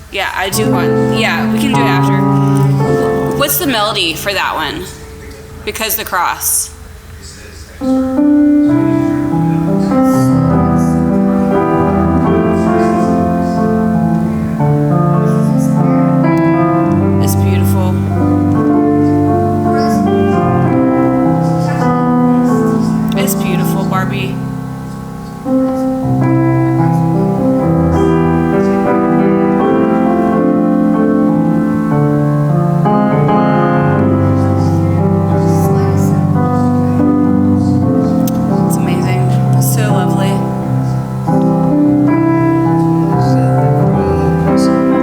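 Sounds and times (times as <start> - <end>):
piano playing slow chords: 0.0 - 45.0.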